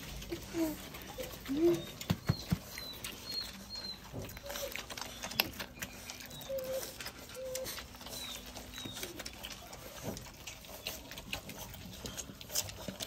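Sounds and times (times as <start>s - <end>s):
puppies suckling clicks and smacks: 0.0s - 13.0s
puppy squeaks and whimpers: 0.2s - 13.0s.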